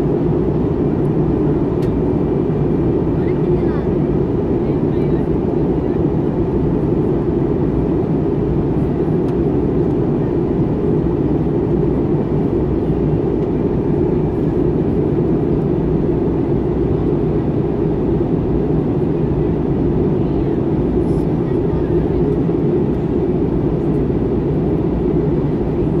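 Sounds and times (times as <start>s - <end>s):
aircraft engine and airflow noise: 0.0s - 26.0s.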